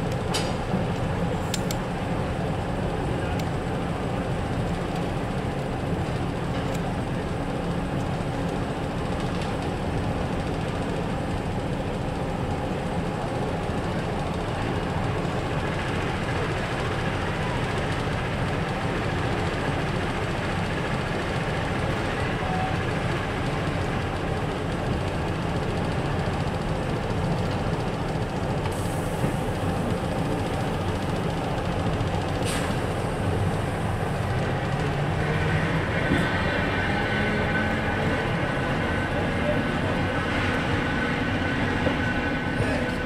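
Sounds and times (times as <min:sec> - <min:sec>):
diesel locomotive engine rumble: 0:00.0 - 0:43.0.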